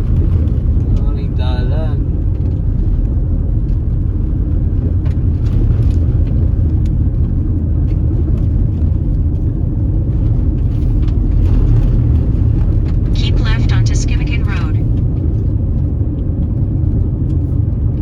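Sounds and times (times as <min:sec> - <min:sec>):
car driving on dirt road: 0:00.0 - 0:18.0.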